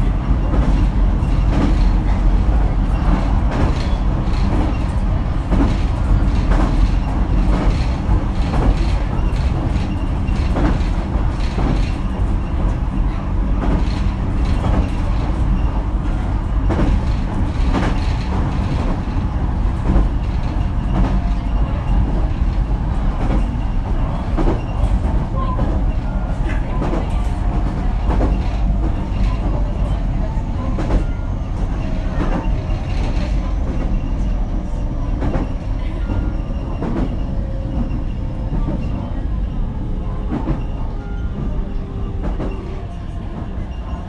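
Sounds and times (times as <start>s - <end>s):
train rumble: 0.0s - 44.0s.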